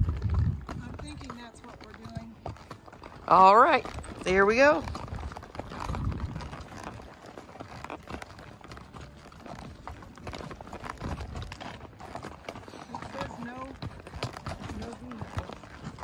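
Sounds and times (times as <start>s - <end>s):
horse hooves on gravel: 0.0s - 16.0s.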